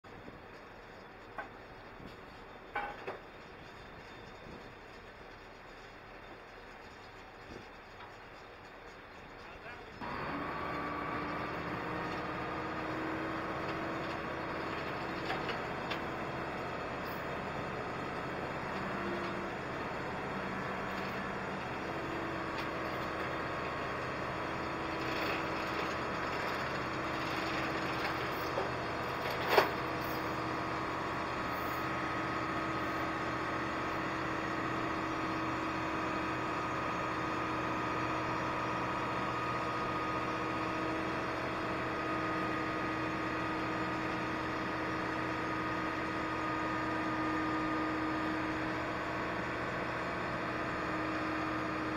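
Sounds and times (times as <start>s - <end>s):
diesel engine running under load: 0.1s - 51.9s
faint hydraulic whine: 0.1s - 51.9s.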